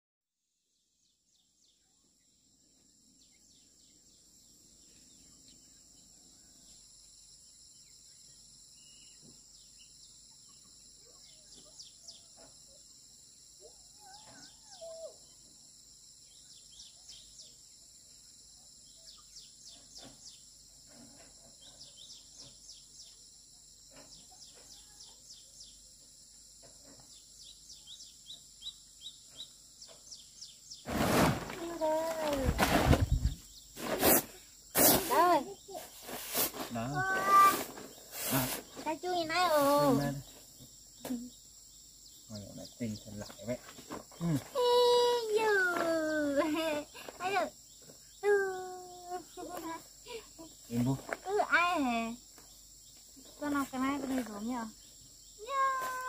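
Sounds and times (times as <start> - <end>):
high insect drone: 1.3 - 56.0.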